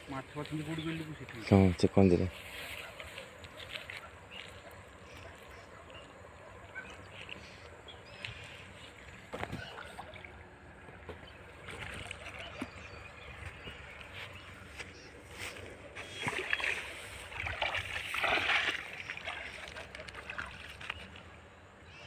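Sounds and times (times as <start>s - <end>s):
feet wading through water: 2.3s - 21.6s.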